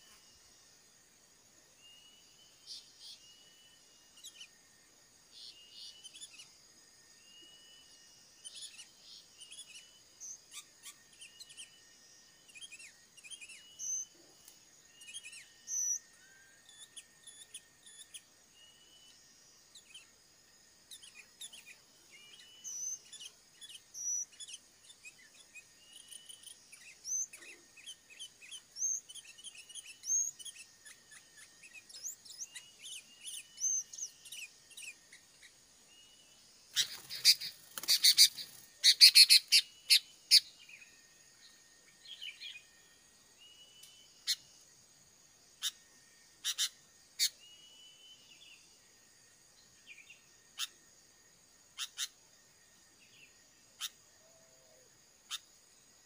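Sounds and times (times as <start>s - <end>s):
high insect hum: 0.0s - 56.0s
small birds chirping: 0.0s - 56.0s.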